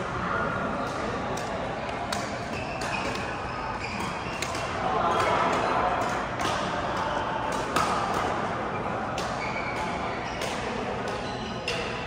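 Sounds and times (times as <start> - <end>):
murmur of voices: 0.0 - 12.0
rackets hitting shuttlecock: 0.8 - 12.0.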